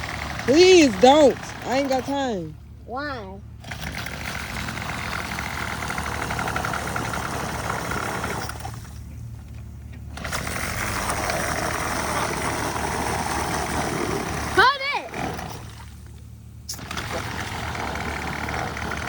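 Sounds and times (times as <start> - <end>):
small engine buzzing: 0.0 - 19.0.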